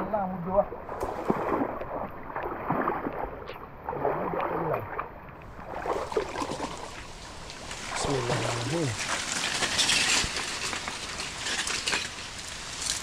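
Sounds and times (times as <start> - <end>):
water sloshing around wading legs: 0.6 - 13.0
small splashes and knocks: 0.9 - 13.0.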